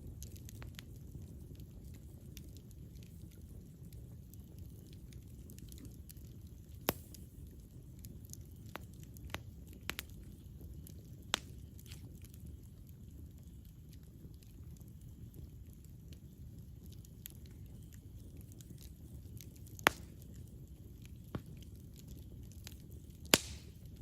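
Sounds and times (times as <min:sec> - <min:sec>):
campfire flames burning: 0:00.0 - 0:24.0
wood popping and crackling: 0:00.2 - 0:24.0.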